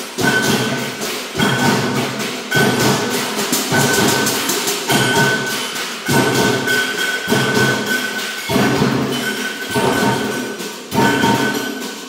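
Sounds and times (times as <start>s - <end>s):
drums and percussion: 0.0s - 12.0s.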